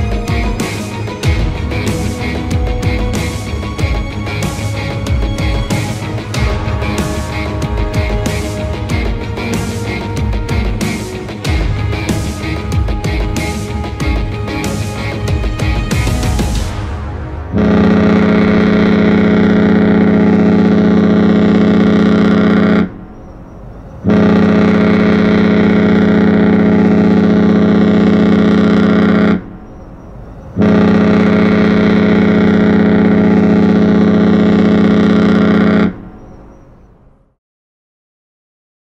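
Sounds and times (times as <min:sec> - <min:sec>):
ship horn blasts: 0:00.0 - 0:23.2, 0:24.0 - 0:29.6, 0:30.6 - 0:36.3.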